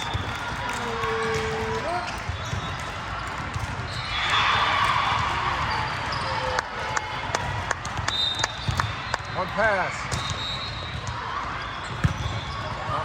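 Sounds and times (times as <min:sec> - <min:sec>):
volleyball hit and bouncing on floor: 0:00.0 - 0:09.4, 0:10.0 - 0:11.3
gym crowd noise: 0:00.0 - 0:13.0.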